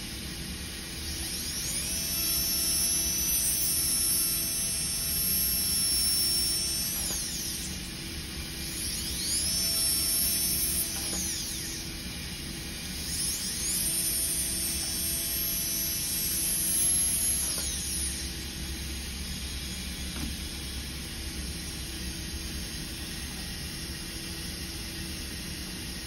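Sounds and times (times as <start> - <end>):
dental drill whining: 0.7 - 26.0.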